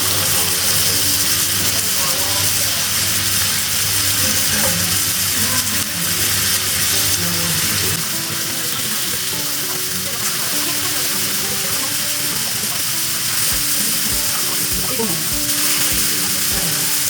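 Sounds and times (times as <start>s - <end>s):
background music: 0.0s - 17.0s
meat sizzling in a pot: 0.0s - 17.0s.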